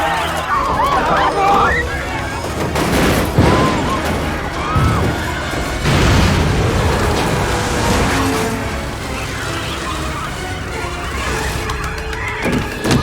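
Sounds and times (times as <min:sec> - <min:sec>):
heavy booming crashes: 0:00.0 - 0:12.0
dramatic film score: 0:00.0 - 0:13.0.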